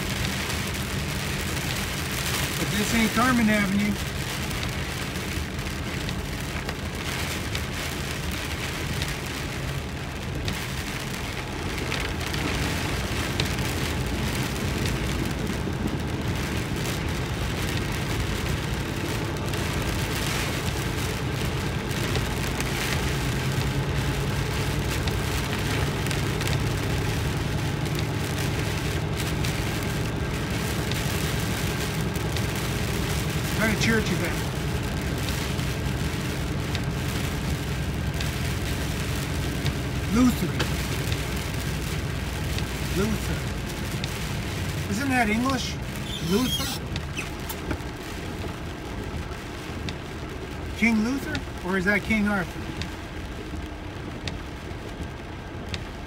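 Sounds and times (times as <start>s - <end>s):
engine and tyres on wet road: 0.0s - 56.0s
heavy rain on vehicle windshield: 0.0s - 56.0s.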